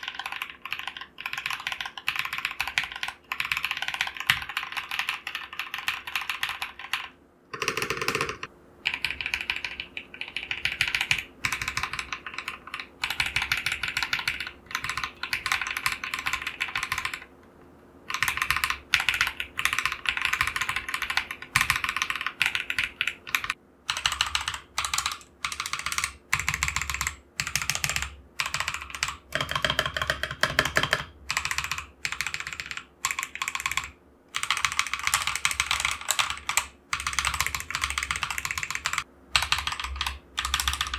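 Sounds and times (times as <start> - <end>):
mechanical keyboard typing: 0.0 - 17.3, 18.1 - 40.9.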